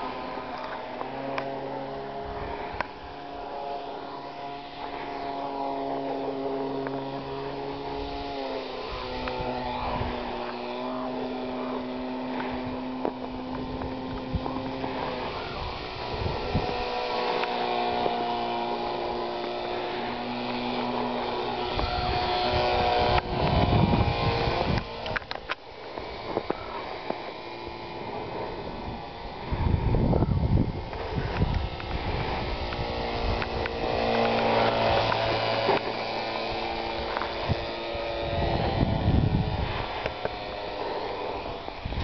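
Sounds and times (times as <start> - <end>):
model plane propeller buzzing: 0.0 - 42.0.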